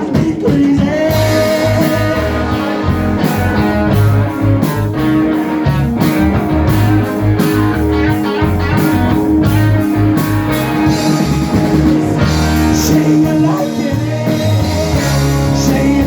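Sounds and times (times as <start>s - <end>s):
electric guitar lead: 0.0s - 16.0s
live rock band playing: 0.0s - 16.0s.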